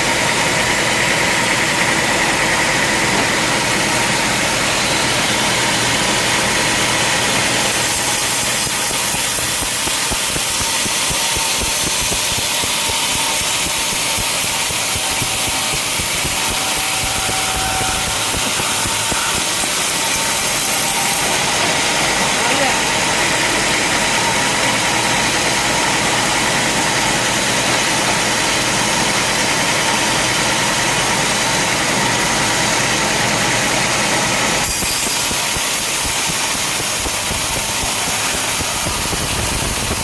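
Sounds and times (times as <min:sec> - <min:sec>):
sawmill machinery running: 0:00.0 - 0:40.0.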